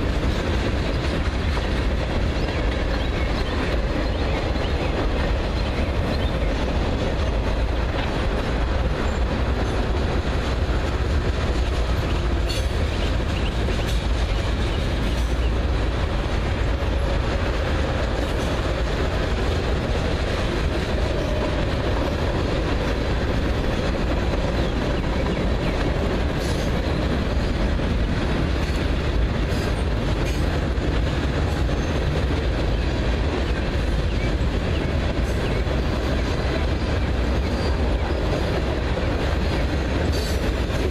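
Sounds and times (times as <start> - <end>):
sharp rail clicks: 0.0 - 40.9
train wheels rumbling on rail: 0.0 - 40.9.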